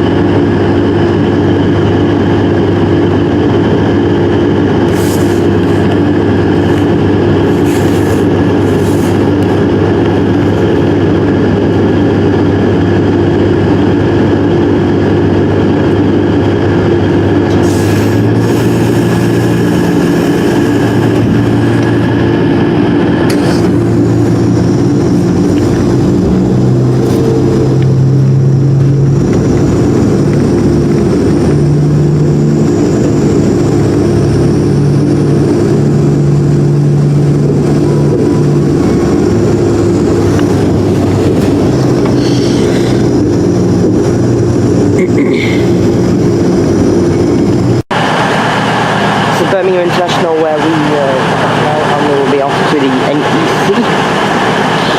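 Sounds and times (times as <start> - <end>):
low train engine tone: 0.0 - 54.9
train drone and rail noise: 0.0 - 54.9.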